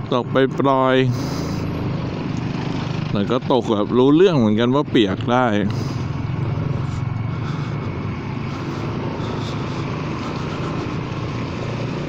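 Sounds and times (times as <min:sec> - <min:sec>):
scooter engine humming: 0:00.0 - 0:12.0
wind: 0:00.0 - 0:12.0.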